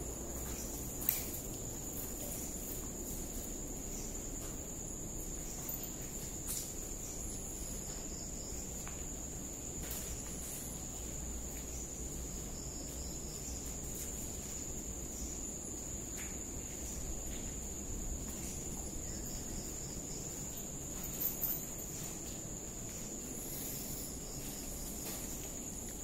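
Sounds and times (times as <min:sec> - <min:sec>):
night insects chorus: 0:00.0 - 0:26.0.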